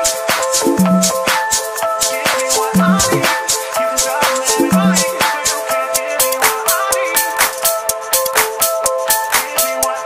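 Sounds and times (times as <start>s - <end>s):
electronic music with fast beat: 0.0s - 10.0s.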